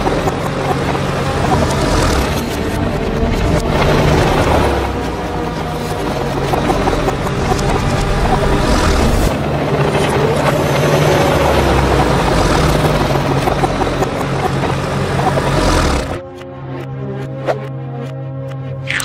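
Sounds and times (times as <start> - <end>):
engine-like mechanical noise: 0.0 - 19.0.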